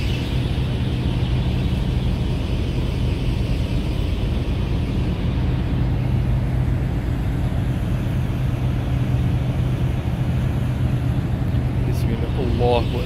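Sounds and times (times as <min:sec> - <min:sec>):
ferry engines droning: 0:00.0 - 0:13.0.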